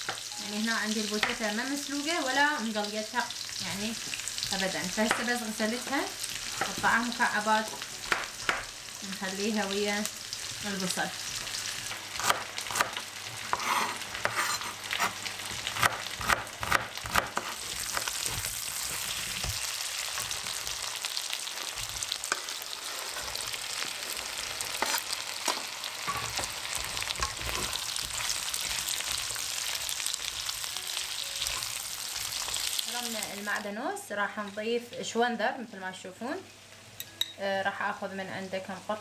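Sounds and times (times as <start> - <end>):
potato and onion sizzling: 0.0 - 39.0.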